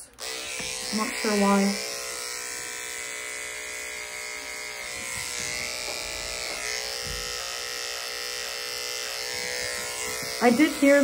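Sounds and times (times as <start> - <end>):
electric clipper humming: 0.0 - 11.0.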